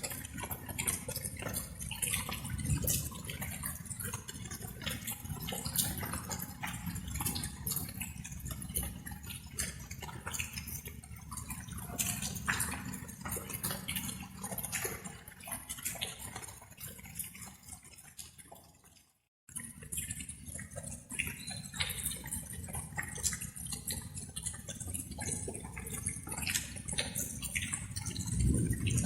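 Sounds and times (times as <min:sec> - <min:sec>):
light rain pattering: 0:00.0 - 0:18.7, 0:19.5 - 0:29.0.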